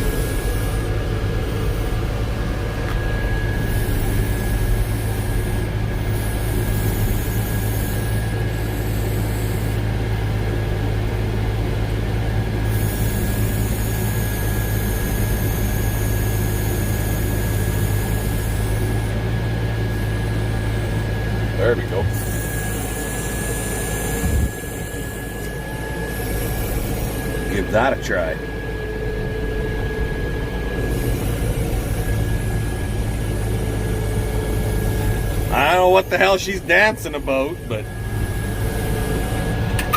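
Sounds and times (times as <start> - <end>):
thin steady whine: 0.0 - 39.9
tractor diesel engine: 0.0 - 39.9.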